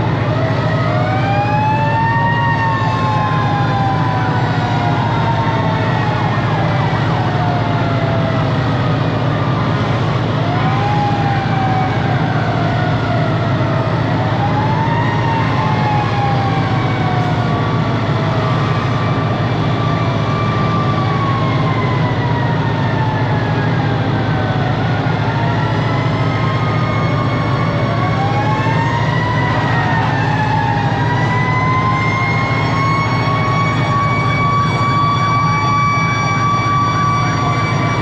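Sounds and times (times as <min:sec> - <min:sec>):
diesel engine drone: 0:00.0 - 0:38.0
fire truck sirens wailing: 0:00.0 - 0:38.0.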